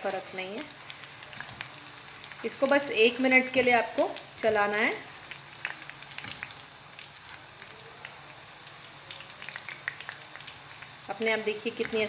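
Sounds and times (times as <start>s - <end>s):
batter deep-frying in hot oil: 0.0s - 12.0s.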